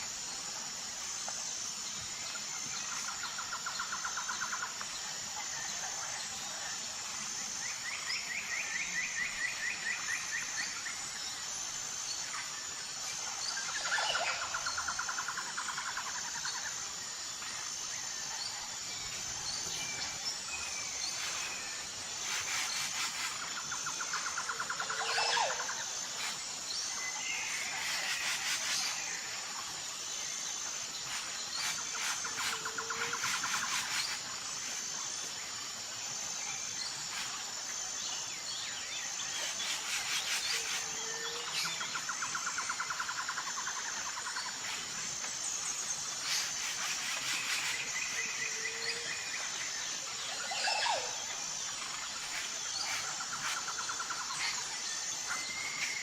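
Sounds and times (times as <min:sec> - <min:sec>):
insect high buzz: 0:00.0 - 0:56.0.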